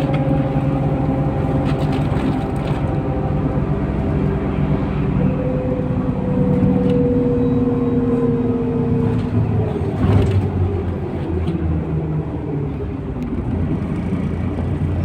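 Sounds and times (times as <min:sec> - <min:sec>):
bus engine and drivetrain whine: 0:00.0 - 0:15.0.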